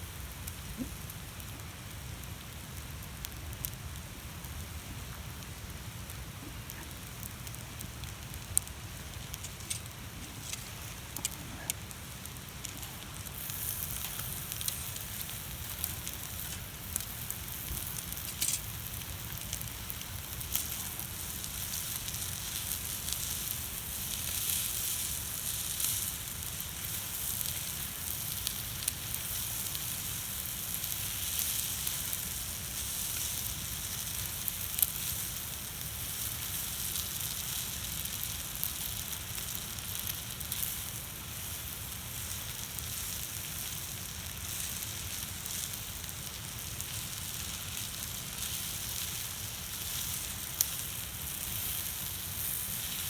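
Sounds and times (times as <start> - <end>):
burning wood crackling: 0.0 - 53.0
food sizzling on a griddle: 0.0 - 53.0.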